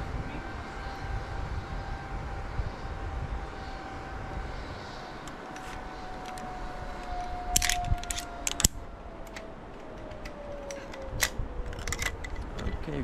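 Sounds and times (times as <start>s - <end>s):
zipline pulleys whining on cable: 0.0s - 12.0s.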